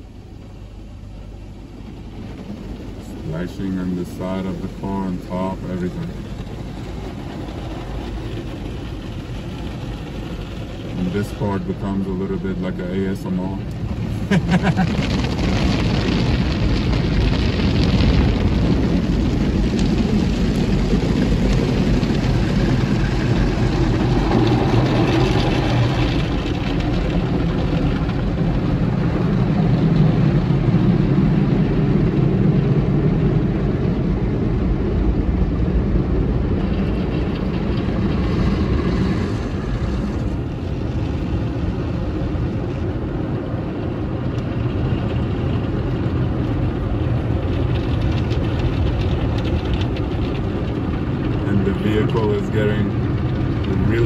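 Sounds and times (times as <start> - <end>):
car wash jets and brushes rumbling: 0.0 - 54.0.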